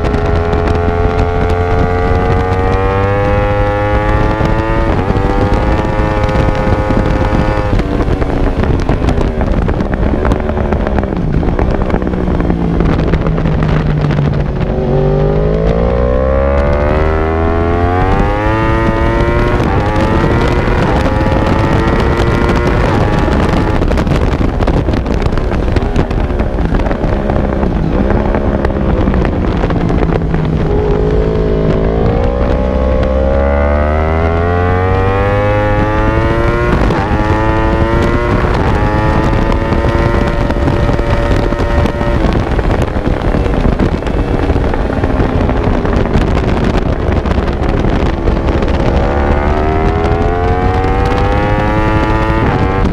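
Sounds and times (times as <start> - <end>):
motorcycle engine at high revs: 0.0 - 52.9
wind buffeting microphone: 0.0 - 52.9.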